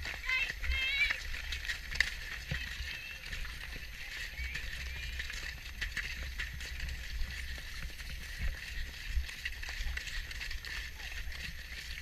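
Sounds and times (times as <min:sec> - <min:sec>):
horse hoofbeats on grass: 0:00.0 - 0:12.0.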